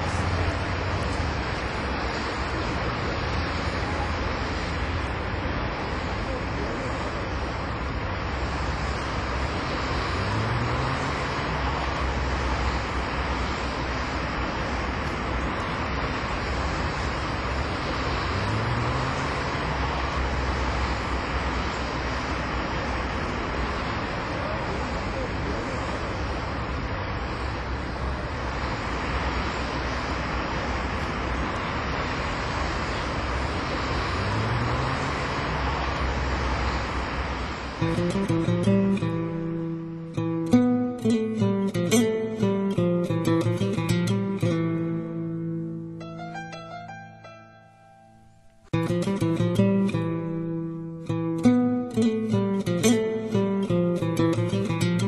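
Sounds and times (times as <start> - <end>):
low hum: 0.0 - 46.5
even hiss: 0.0 - 47.4, 48.4 - 55.0.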